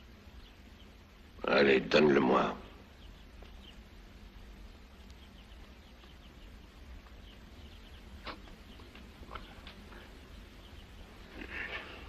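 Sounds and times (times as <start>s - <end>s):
faint bird chirps: 0.0s - 12.0s
low room hum: 0.0s - 12.0s.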